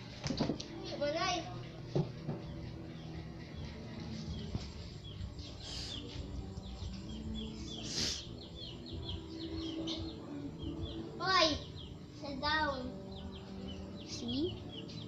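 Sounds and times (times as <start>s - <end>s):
chicks peeping: 0.4s - 15.0s.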